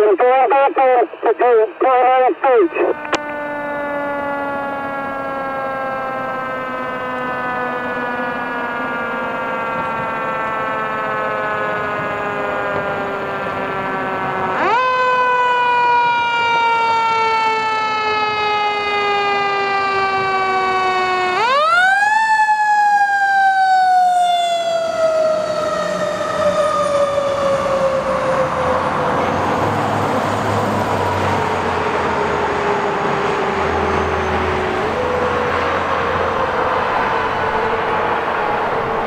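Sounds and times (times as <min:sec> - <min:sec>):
fire truck siren wailing: 0:00.0 - 0:39.0
truck engine rumble: 0:00.8 - 0:39.0.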